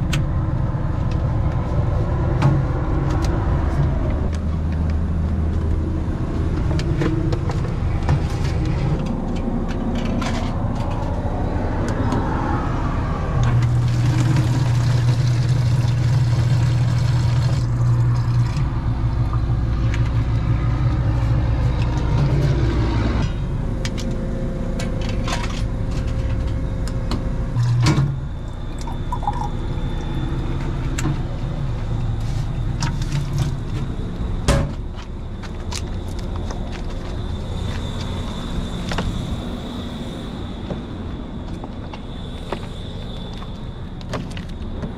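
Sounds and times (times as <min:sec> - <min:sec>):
car engine drone: 0:00.0 - 0:44.9
road noise: 0:00.0 - 0:44.9.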